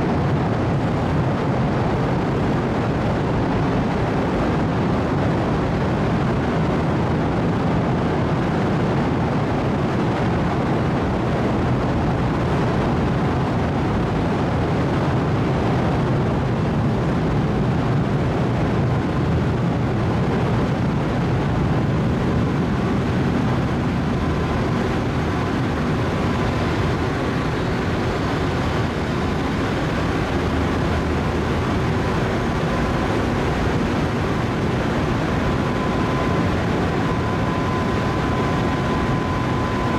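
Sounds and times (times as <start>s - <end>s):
ship engine and ventilation drone: 0.0s - 39.9s.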